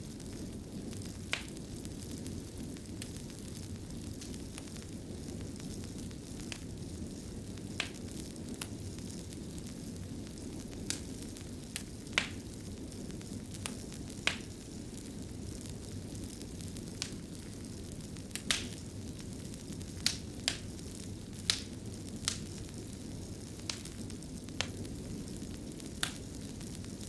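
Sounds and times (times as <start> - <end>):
fire crackling and popping: 0.0 - 27.0
fire rumbling and hissing: 0.0 - 27.0.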